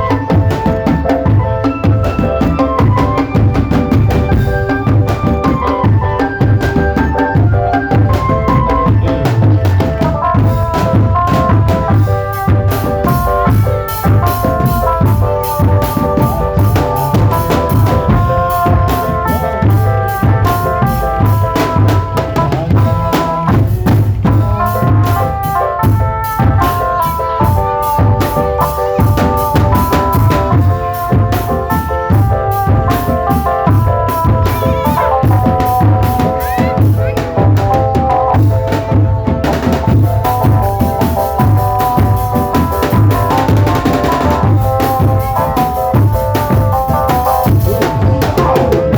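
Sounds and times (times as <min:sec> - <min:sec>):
bass and snare drums: 0:00.0 - 0:48.9
melody of held notes: 0:00.0 - 0:48.9.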